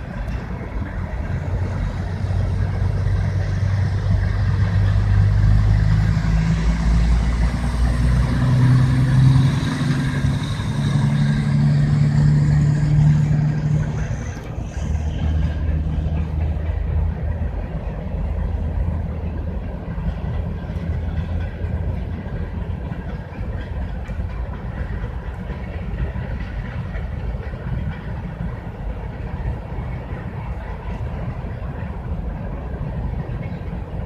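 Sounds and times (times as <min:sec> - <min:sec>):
diesel locomotive engines humming: 0:00.0 - 0:34.0.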